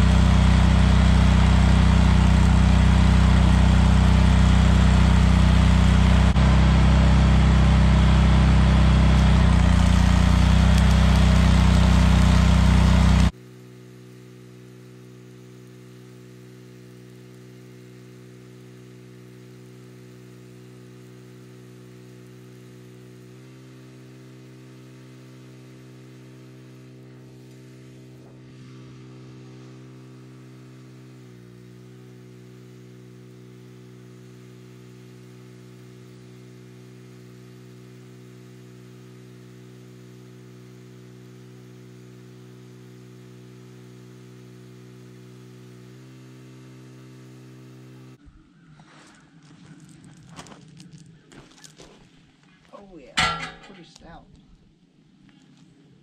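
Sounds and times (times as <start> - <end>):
engine-driven welder running: 0.0 - 48.2, 49.2 - 54.1
welding arc hissing and crackling: 0.0 - 48.2.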